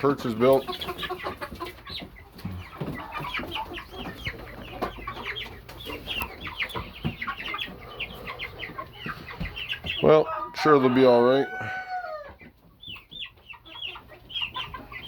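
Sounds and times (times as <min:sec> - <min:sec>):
chickens chirping and clucking: 0:00.0 - 0:15.0.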